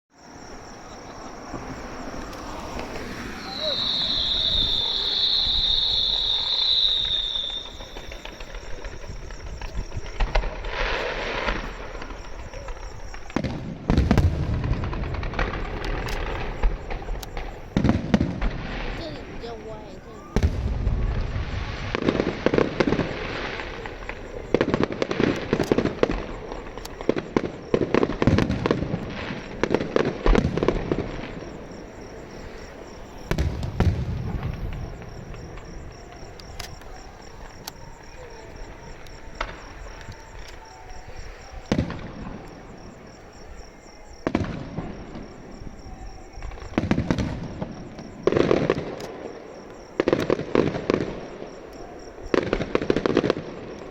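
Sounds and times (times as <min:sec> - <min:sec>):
fireworks banging and crackling: 0:00.2 - 0:53.9.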